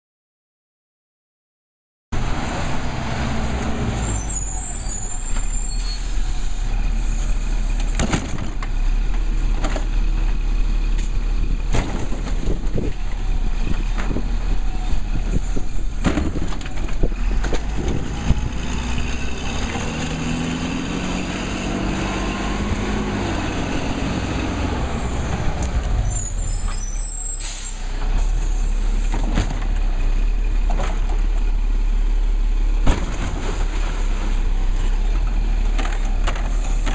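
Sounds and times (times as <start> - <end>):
garbage truck engine rumble: 2.2 - 36.9.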